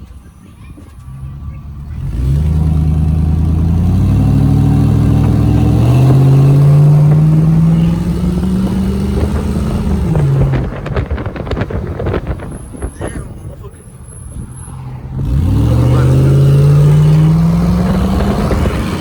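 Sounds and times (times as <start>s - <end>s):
vehicle engine accelerating hard: 0.0s - 19.0s.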